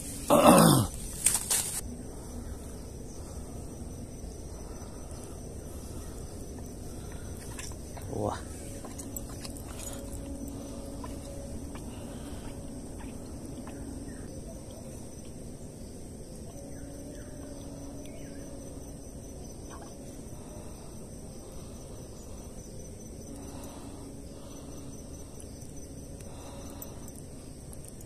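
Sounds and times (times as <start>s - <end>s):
faint low hum: 0.0s - 28.0s
high-pitched insect trill: 0.0s - 28.0s.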